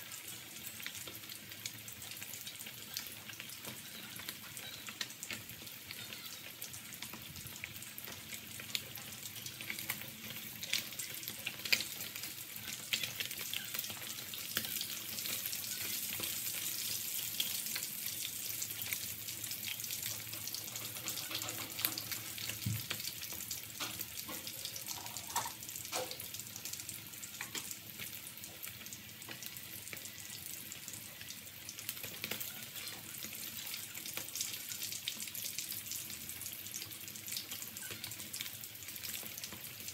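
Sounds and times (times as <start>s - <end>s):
fish deep-frying in oil: 0.0s - 39.9s.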